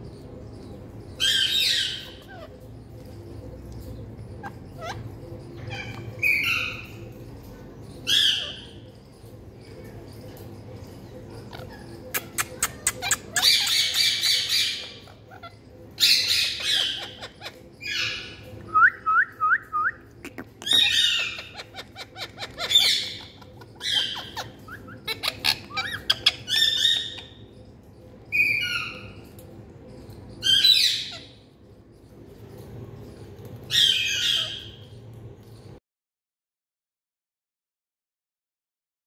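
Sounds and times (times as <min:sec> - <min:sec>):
parakeets squawking: 0:00.2 - 0:18.6, 0:20.1 - 0:35.0.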